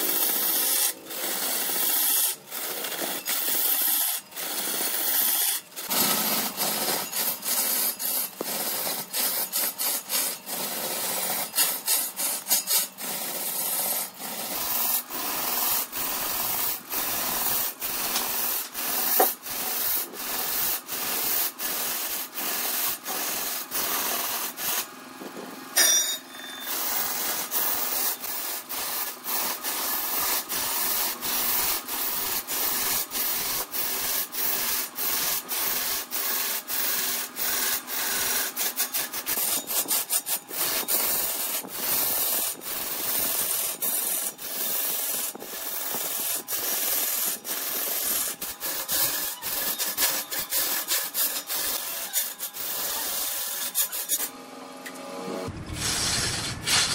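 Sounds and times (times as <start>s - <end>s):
lathe tool cutting wood: 0.0s - 25.0s, 26.6s - 54.4s.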